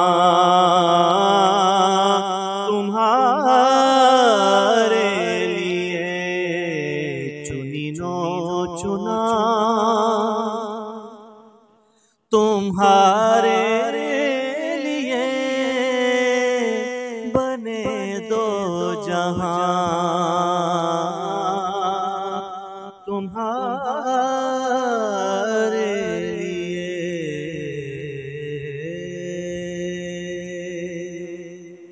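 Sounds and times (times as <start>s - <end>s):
man singing ornamented notes: 0.0s - 11.5s, 12.4s - 31.9s.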